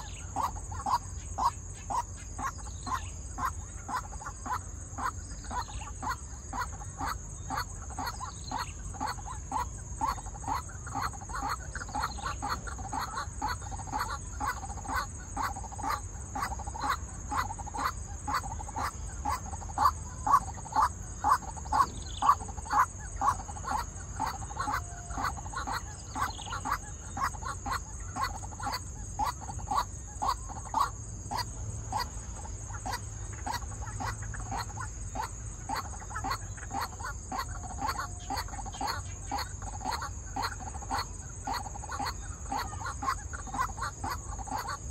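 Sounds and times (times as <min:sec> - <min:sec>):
bird calling repeatedly: 0:00.0 - 0:44.9.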